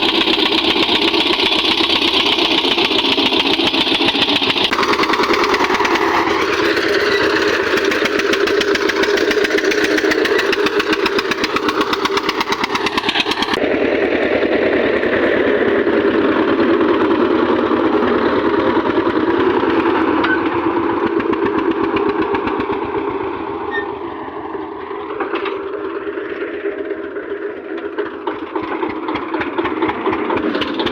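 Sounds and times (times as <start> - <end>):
tractor diesel engine idling: 0.0 - 30.9.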